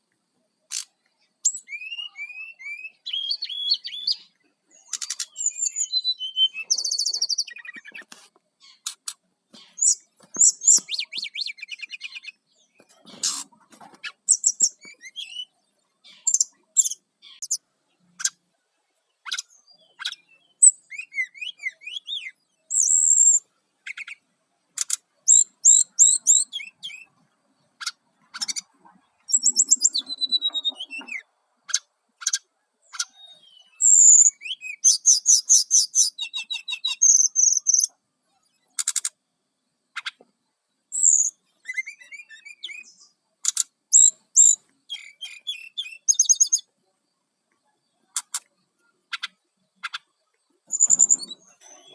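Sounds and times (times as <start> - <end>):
bird singing: 0.0 - 51.9.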